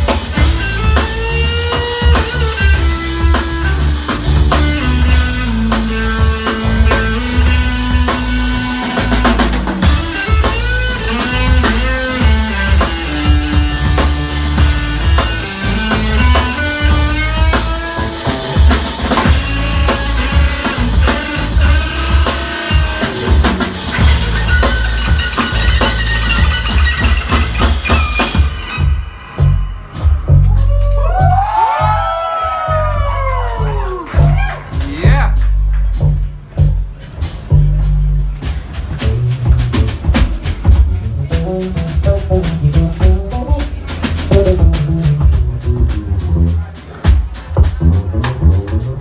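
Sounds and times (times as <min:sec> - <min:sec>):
bass guitar: 0:00.0 - 0:49.0
drum kit: 0:00.0 - 0:49.0.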